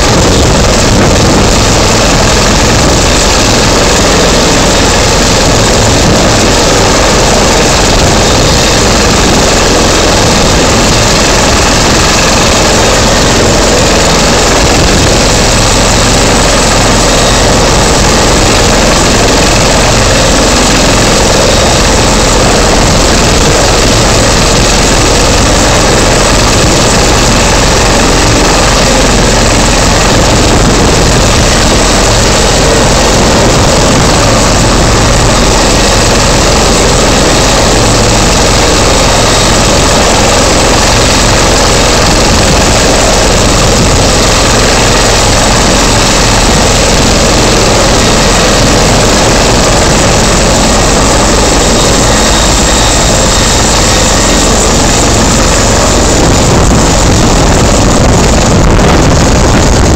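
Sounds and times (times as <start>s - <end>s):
helicopter turbine and rotors: 0.0s - 59.9s.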